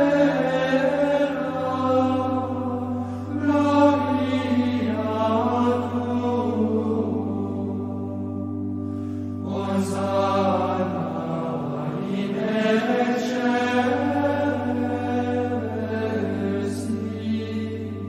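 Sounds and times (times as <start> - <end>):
slow chanted singing: 0.0 - 18.0.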